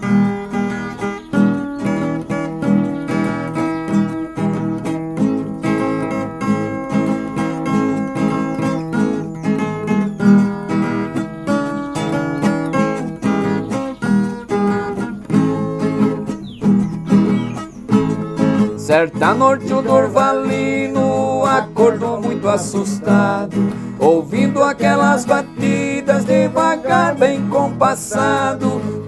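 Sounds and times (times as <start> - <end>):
plucked string melody: 0.0 - 29.0
strummed guitar accompaniment: 0.0 - 29.0.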